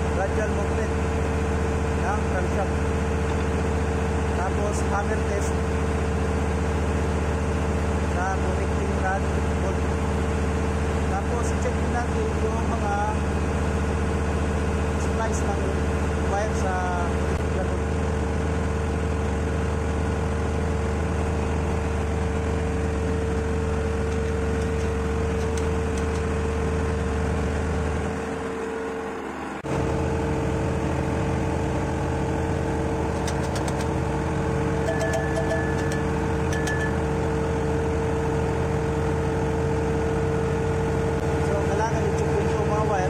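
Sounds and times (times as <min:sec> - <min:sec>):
ship machinery drone: 0:00.0 - 0:43.0.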